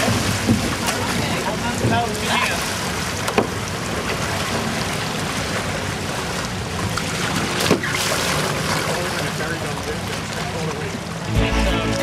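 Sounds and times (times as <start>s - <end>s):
small waves lapping: 0.0s - 12.0s
water splashing: 0.0s - 12.0s.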